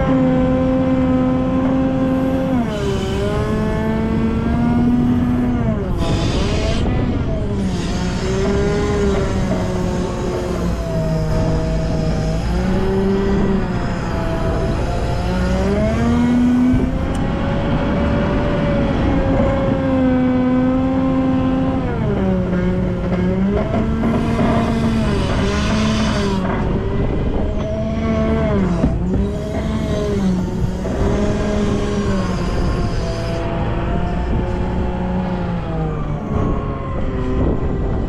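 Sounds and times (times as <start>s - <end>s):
wheel loader diesel engine revving: 0.0s - 38.0s.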